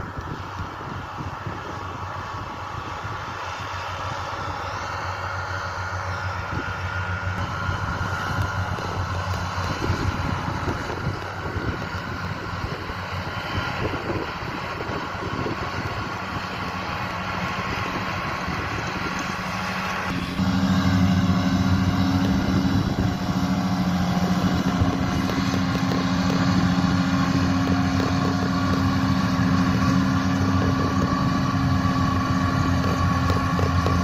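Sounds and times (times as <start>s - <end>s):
wind noise on microphone: 0.0s - 4.8s, 6.4s - 34.0s
tractor diesel engine droning: 0.0s - 34.0s.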